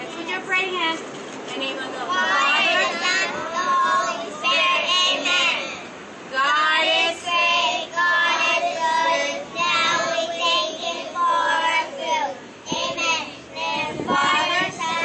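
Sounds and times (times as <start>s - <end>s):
young children singing: 2.1s - 15.0s.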